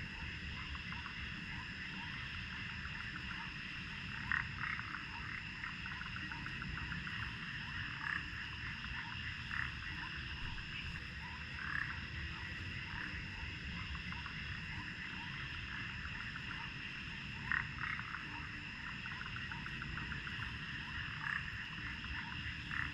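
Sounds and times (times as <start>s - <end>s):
frogs croaking in chorus: 0.0s - 22.9s
low background noise: 0.0s - 22.9s.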